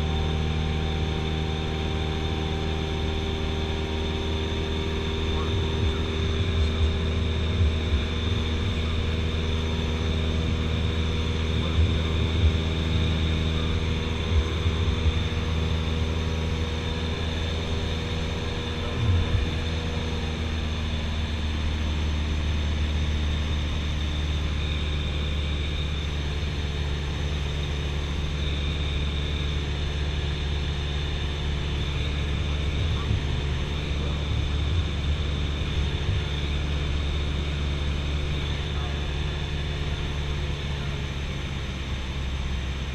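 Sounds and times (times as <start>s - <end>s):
airplane engine drone in cabin: 0.0s - 42.9s.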